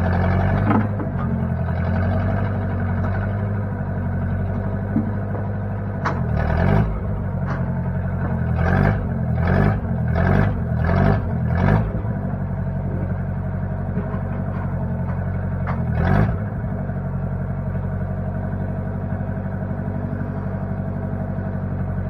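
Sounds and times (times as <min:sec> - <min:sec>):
backhoe engine idling and revving: 0:00.0 - 0:22.0.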